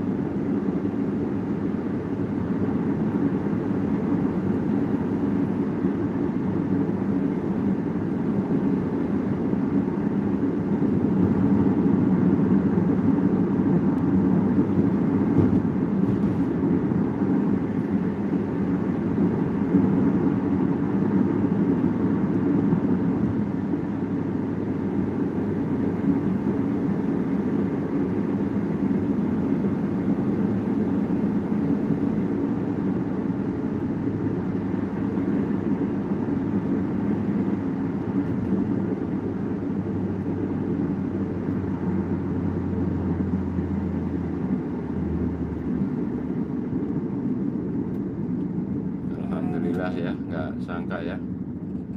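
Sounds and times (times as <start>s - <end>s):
car interior road noise: 0.0s - 51.9s.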